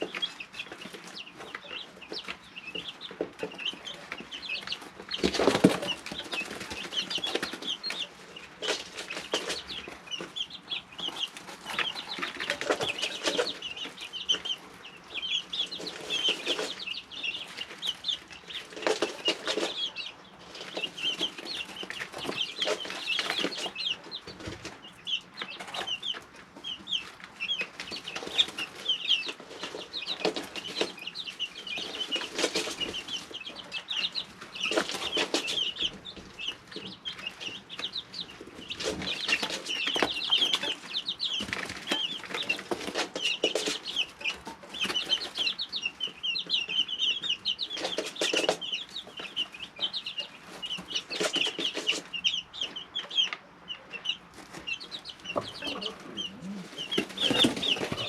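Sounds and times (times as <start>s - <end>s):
chicks peeping: 0.0s - 58.0s
chicks rustling: 0.0s - 58.0s.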